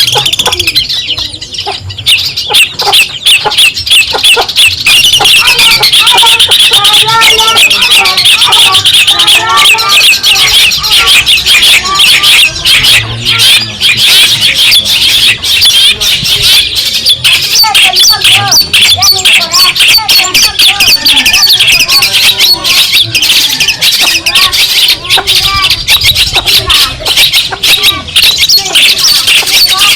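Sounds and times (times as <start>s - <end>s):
bird singing rapid chattering song: 0.0s - 29.9s.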